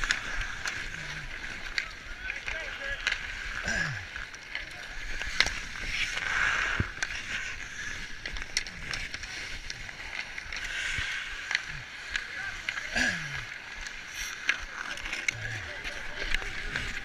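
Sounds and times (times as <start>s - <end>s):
hockey sticks and puck clacking: 0.0s - 17.0s
skate blades scraping on ice: 0.0s - 17.0s.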